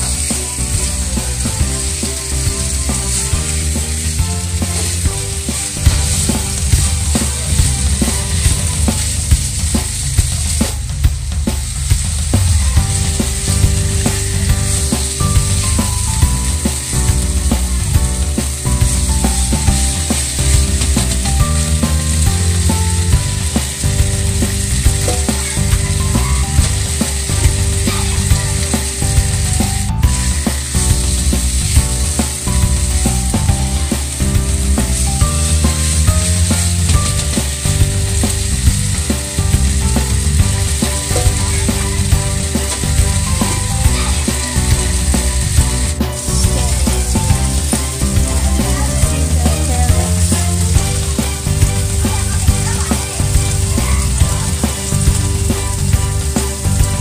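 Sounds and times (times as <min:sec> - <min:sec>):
buzzing hum with pitched tones: 0:00.0 - 0:57.0
chicken sizzling in oil: 0:00.0 - 0:57.0.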